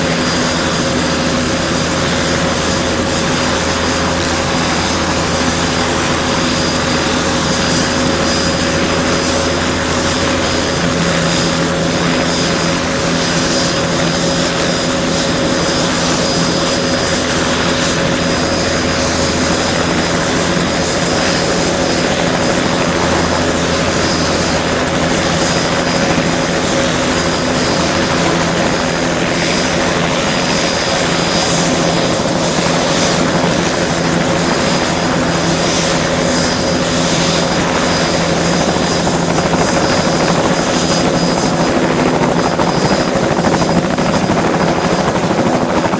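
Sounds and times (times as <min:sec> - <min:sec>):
helicopter rotor drone: 0:00.0 - 0:45.9.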